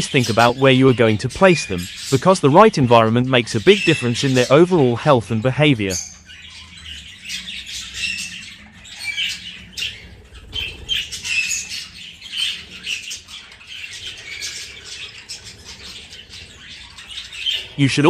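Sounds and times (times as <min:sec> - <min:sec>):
budgerigars chattering and chirping: 0:00.0 - 0:18.0.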